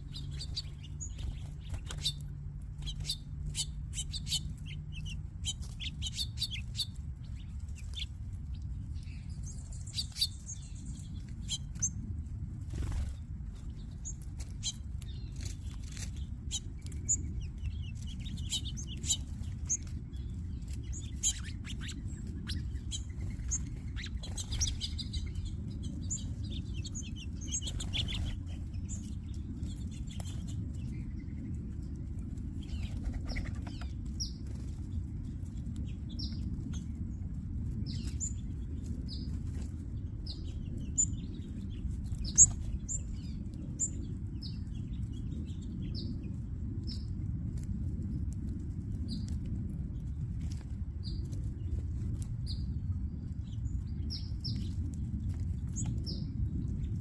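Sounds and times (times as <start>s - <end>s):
small songbirds chirping: 0.0s - 57.0s
steady low rumble: 0.0s - 57.0s.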